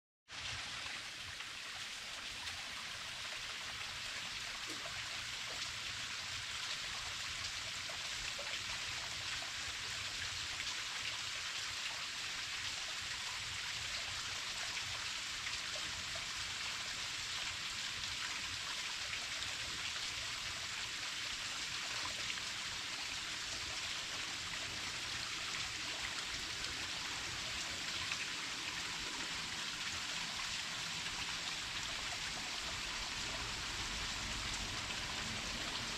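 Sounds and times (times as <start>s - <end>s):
small waterfall splashing: 0.3s - 35.9s.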